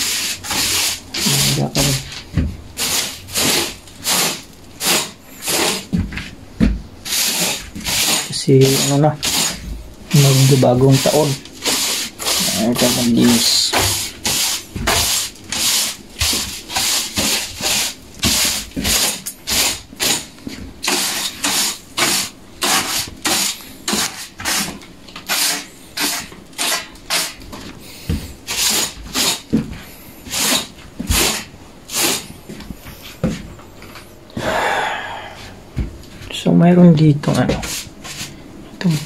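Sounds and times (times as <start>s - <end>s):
brush scraping over surface: 0.0s - 6.3s, 7.0s - 34.5s, 37.4s - 39.0s.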